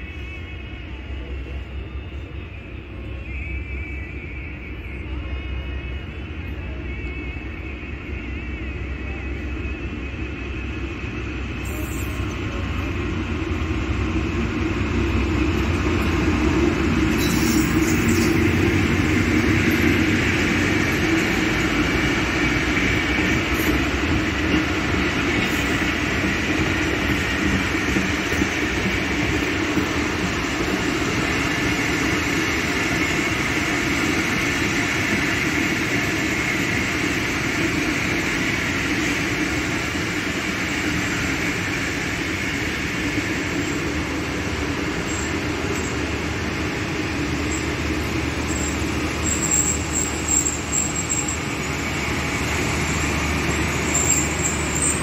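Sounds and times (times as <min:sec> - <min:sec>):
diesel locomotive passing: 0:00.0 - 0:55.0
train wheels on rails: 0:00.0 - 0:55.0.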